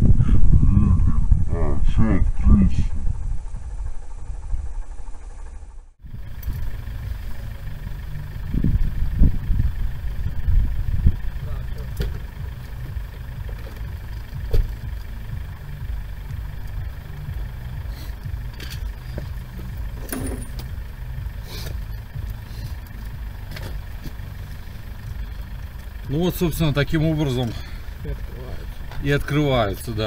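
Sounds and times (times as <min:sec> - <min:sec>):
car engine idling: 0:02.8 - 0:30.0.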